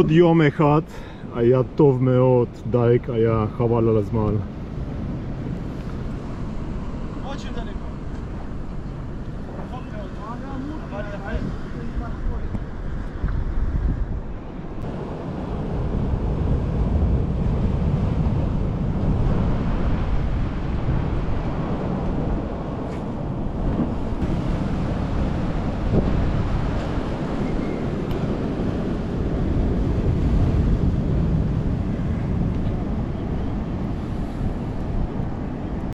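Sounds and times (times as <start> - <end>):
sea waves: 0.0 - 35.9
wind buffeting microphone: 2.5 - 35.9.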